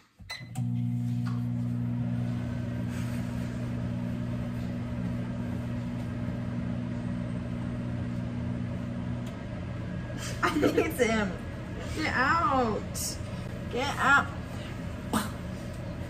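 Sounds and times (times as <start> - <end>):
microwave oven humming: 0.3 - 16.0.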